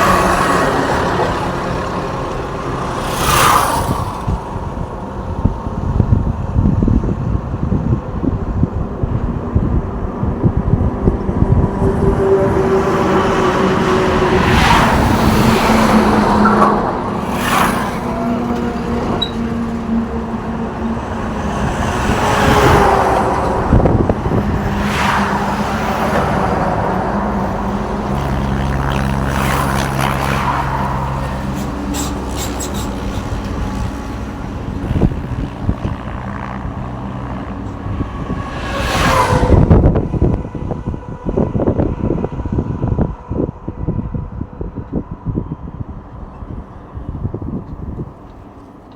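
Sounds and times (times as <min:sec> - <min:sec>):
trucks driving past: 0:00.0 - 0:48.9.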